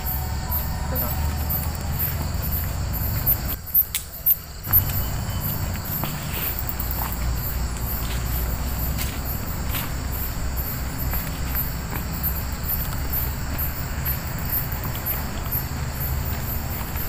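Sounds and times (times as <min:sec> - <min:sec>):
handling rumble and footsteps: 0:00.0 - 0:17.0
insects chirping: 0:00.0 - 0:17.0.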